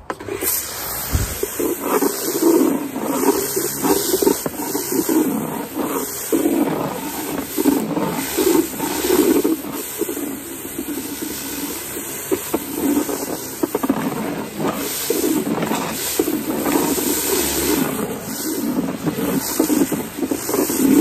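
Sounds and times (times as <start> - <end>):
pressure washer spraying paving: 0.0 - 21.0.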